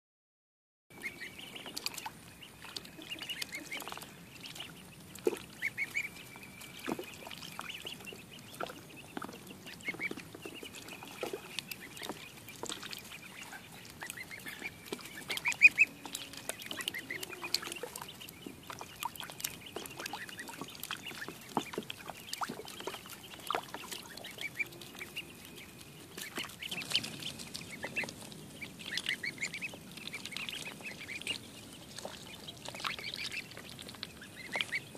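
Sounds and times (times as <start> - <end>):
ducklings peeping: 0.9 - 34.9
water splashing: 1.0 - 34.9.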